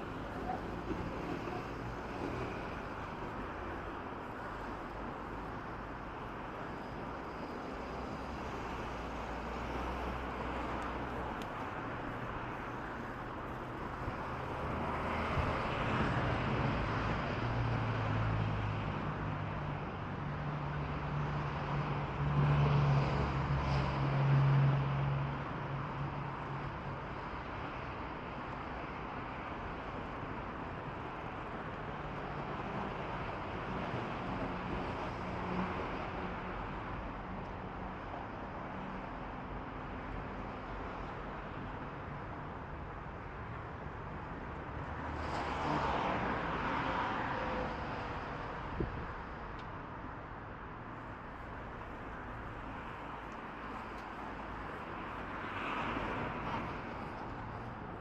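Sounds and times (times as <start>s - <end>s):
street traffic noise: 0.0s - 58.0s.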